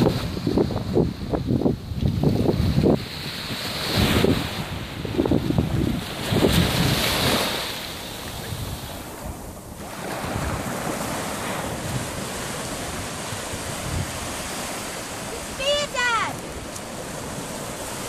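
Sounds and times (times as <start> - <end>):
small waves washing over sand: 0.0 - 18.0
wind buffeting microphone: 0.0 - 18.0.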